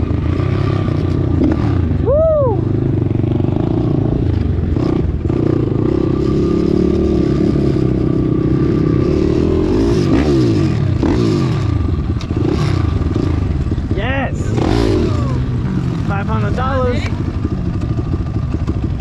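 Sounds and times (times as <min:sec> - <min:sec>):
pit bike engines revving: 0:00.0 - 0:19.0.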